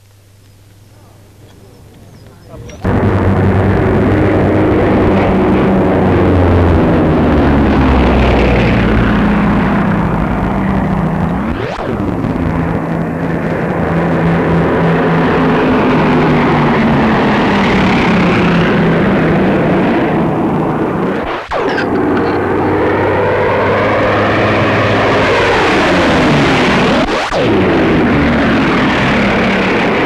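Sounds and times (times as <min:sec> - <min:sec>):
propeller aircraft droning overhead: 0:00.0 - 0:30.0.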